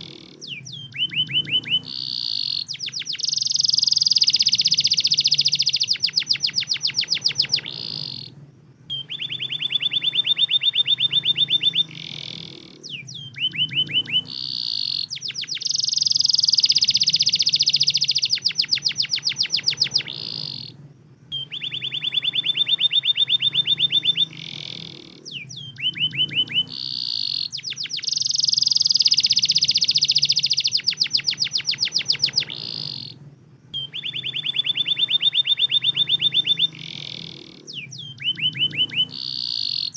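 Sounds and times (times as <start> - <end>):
canary song trills: 0.0 - 39.9.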